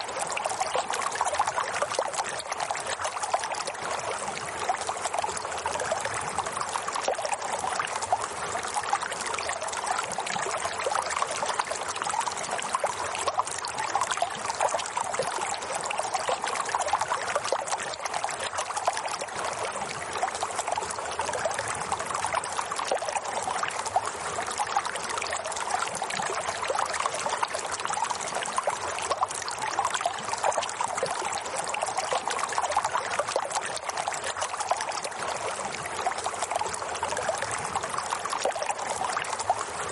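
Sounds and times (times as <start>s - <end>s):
flowing water trickling: 0.0s - 39.9s.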